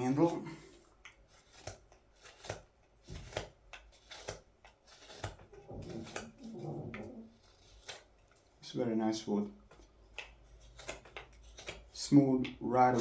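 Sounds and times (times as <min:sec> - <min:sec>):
knife shaving green wood: 0:00.0 - 0:13.0.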